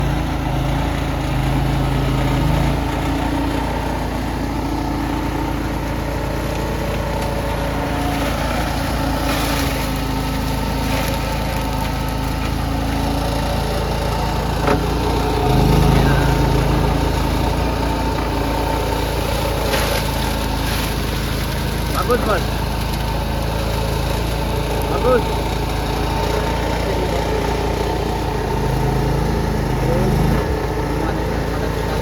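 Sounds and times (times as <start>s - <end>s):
skid steer engine running: 0.0s - 32.0s.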